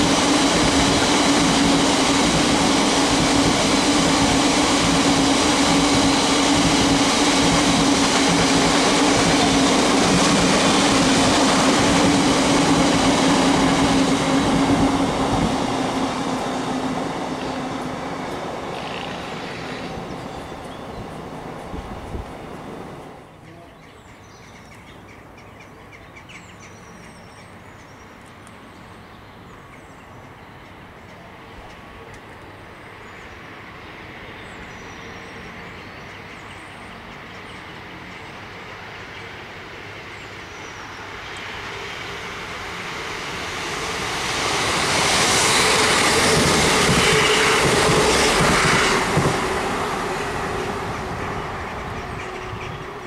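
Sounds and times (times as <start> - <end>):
train passing rumble: 0.0 - 53.0.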